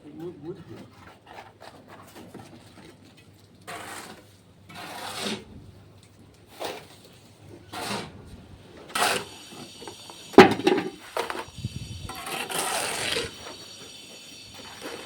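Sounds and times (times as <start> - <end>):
tools scraping wet concrete: 0.0 - 5.5, 6.4 - 8.2, 8.8 - 15.0.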